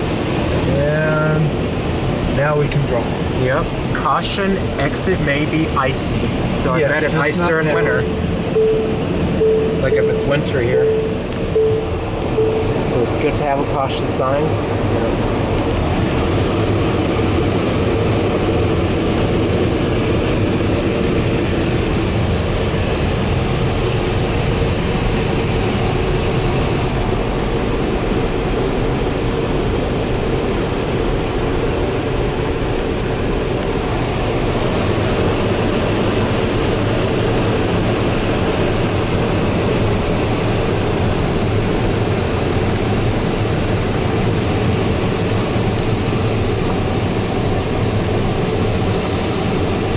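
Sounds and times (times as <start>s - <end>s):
road and tyre noise in car: 0.0s - 49.9s.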